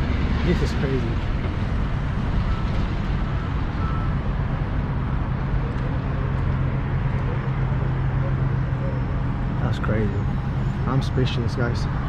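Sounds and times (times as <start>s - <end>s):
vehicle running rumble: 0.0s - 12.0s.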